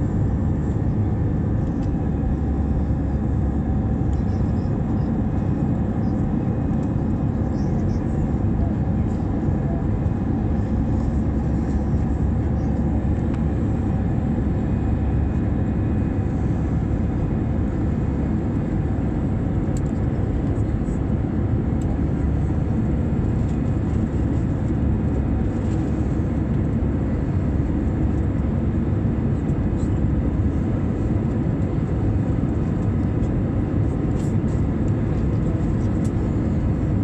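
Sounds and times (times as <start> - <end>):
jet engines droning in cabin: 0.0 - 37.0.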